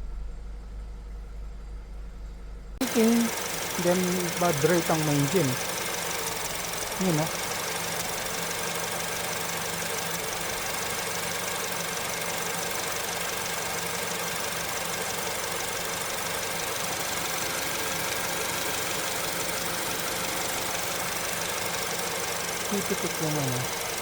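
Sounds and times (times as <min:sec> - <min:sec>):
car engine idling and misfiring: 0:00.0 - 0:24.0.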